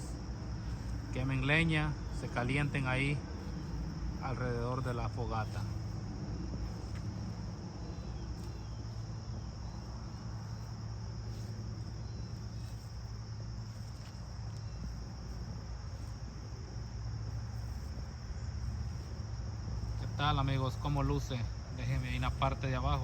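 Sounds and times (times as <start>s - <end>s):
crickets chirping: 0.0s - 23.0s
steady low rumble: 0.0s - 23.0s.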